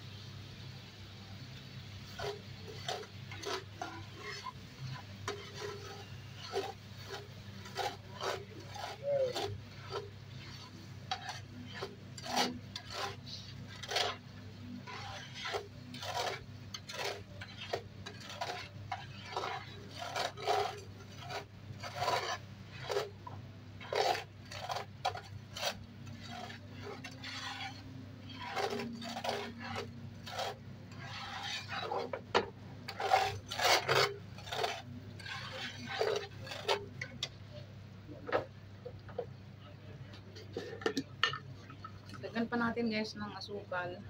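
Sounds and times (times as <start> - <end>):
metal spatula scraping frying pan: 2.0 - 37.6.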